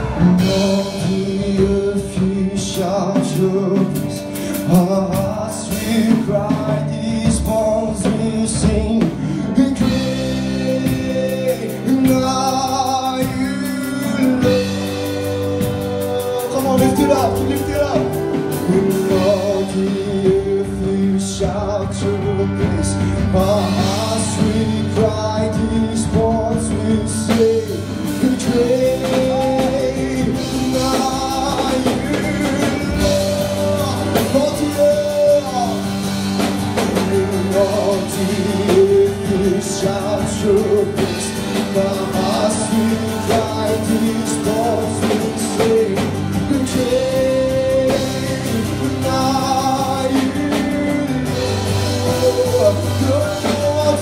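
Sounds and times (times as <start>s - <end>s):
drum kit: 0.0s - 54.0s
live band music: 0.0s - 54.0s.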